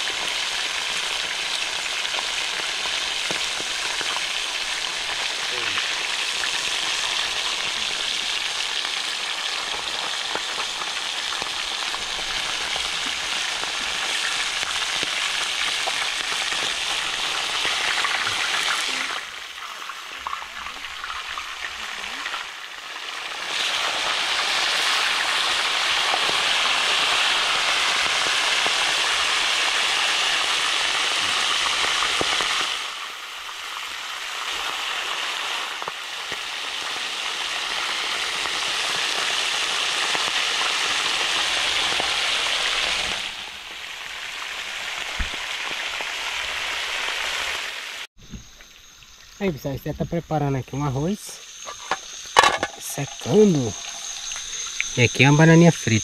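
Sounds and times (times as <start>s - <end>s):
food sizzling in hot fat: 0.0s - 56.0s.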